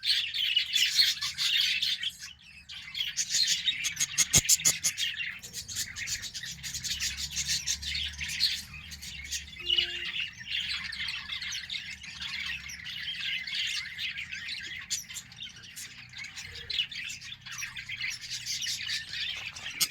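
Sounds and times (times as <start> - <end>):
budgies chattering and squawking: 0.0 - 19.9.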